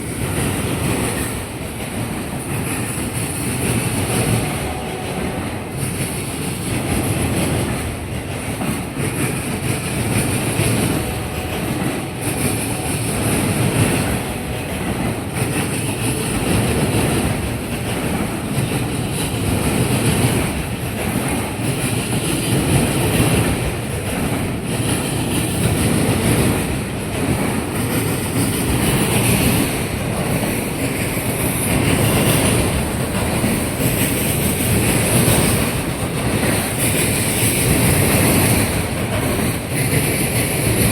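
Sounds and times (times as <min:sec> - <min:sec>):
steel wheels clattering over crossing: 0:00.0 - 0:40.9
train rolling rumble: 0:00.0 - 0:40.9.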